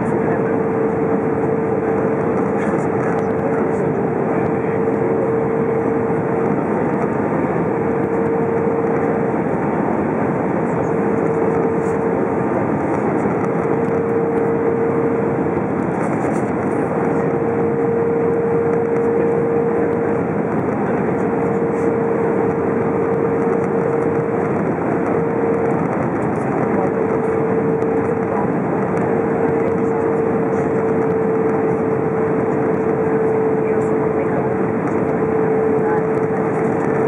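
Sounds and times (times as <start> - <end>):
airplane cabin airflow and engine: 0.0 - 37.0
constant mid-pitched hum: 0.0 - 37.0.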